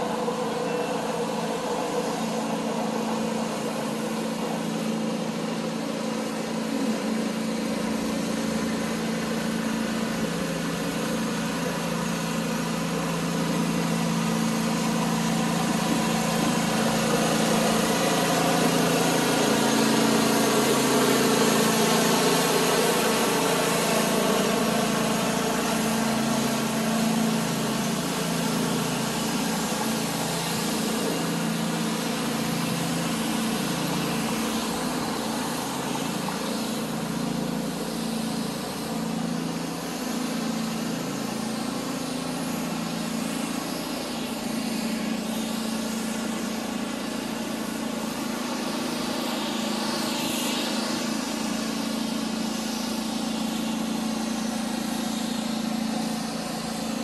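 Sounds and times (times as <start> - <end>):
engine hum: 0.0 - 57.0.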